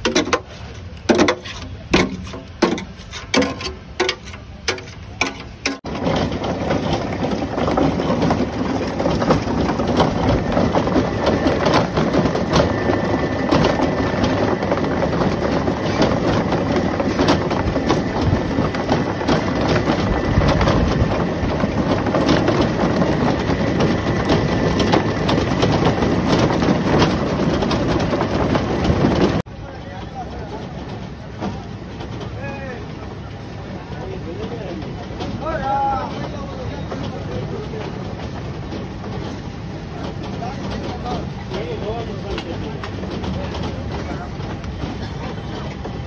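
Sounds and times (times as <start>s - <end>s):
pulping machine running: 0.0s - 46.0s.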